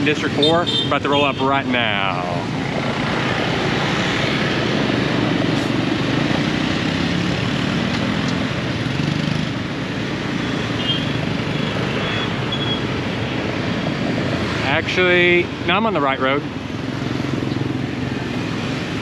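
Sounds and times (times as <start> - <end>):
motorbike engine hum: 0.0 - 19.0
road noise: 0.0 - 19.0
surrounding traffic: 0.0 - 19.0.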